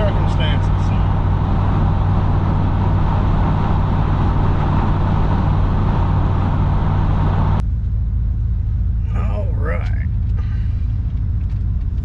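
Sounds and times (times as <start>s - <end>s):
pickup engine drone and road noise: 0.0s - 12.0s.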